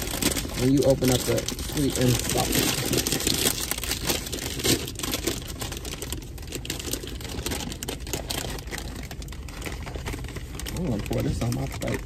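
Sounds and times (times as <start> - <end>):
plastic bag crackling: 0.0 - 12.0.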